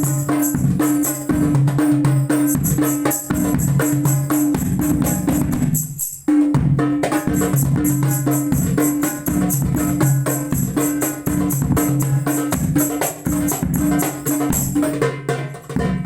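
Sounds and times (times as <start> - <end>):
frame drums and bass drum: 0.0 - 16.0.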